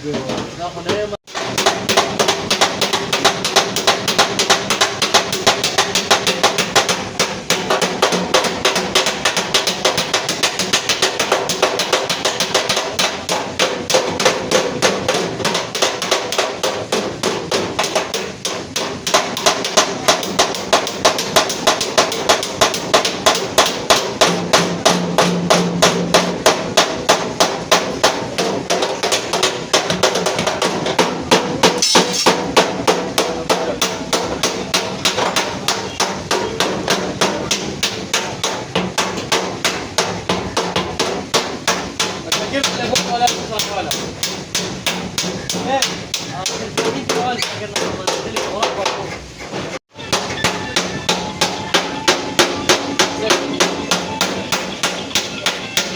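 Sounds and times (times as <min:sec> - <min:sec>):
hammer on sheet metal: 0:00.1 - 0:55.9.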